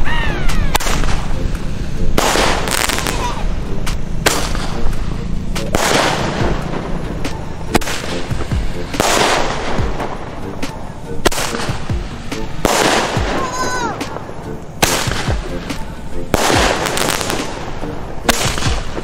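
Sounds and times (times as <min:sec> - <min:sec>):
firework bangs: 0:00.0 - 0:19.0
firework star hissing: 0:00.0 - 0:19.0.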